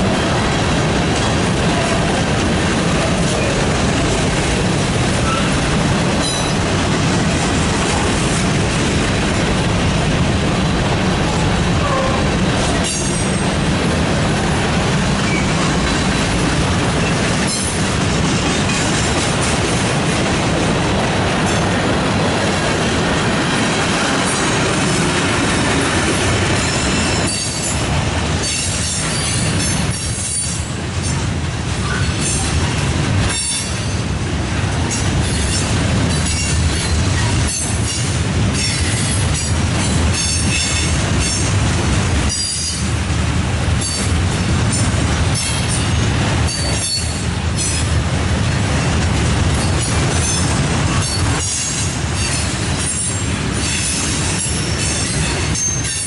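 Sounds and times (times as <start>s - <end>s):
wheels clacking over rail joints: 0.0s - 10.2s, 11.2s - 42.9s, 43.6s - 56.0s
freight train rumbling past: 0.0s - 56.0s.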